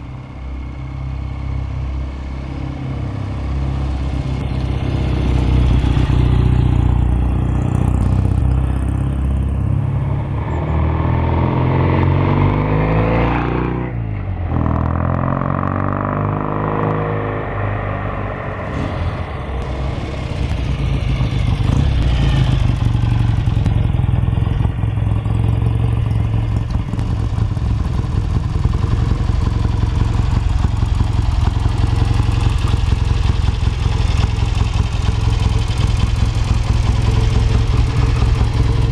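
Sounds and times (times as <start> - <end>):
motorcycle engine passing by: 3.7 - 38.9.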